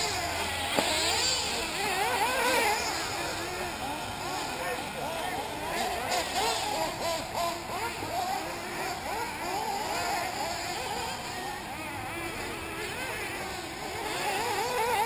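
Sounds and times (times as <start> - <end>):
rc car engines whining: 0.0 - 15.0.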